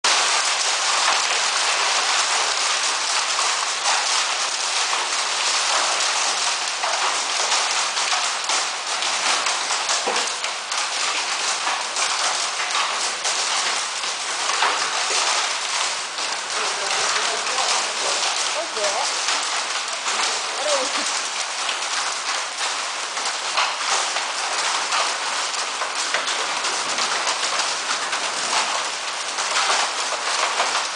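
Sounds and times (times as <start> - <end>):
heavy rain: 0.0 - 30.9
hailstones ticking: 0.1 - 30.9.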